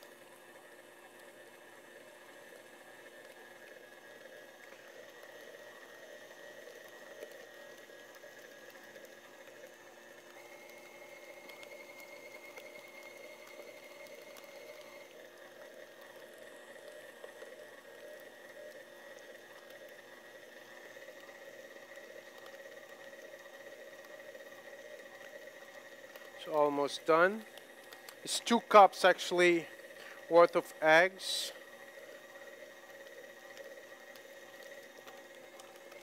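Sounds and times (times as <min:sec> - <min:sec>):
stand mixer motor running: 0:00.0 - 0:36.0.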